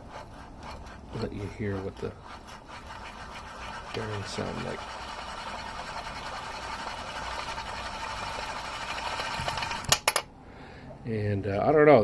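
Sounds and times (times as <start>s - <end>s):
bearings whirring rattle: 0.0s - 10.3s.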